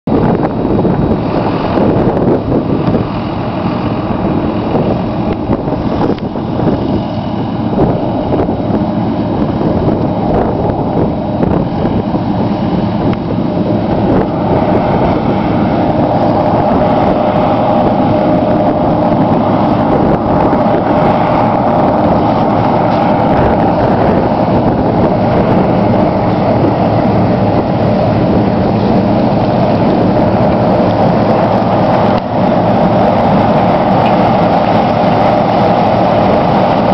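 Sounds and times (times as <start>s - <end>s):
combine harvester drone: 0.0s - 36.9s
steady machine whine: 0.0s - 36.9s.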